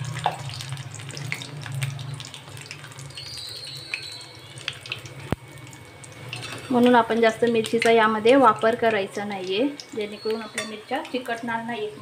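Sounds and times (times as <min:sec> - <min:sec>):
deep-frying sizzle with pops: 0:00.0 - 0:12.0.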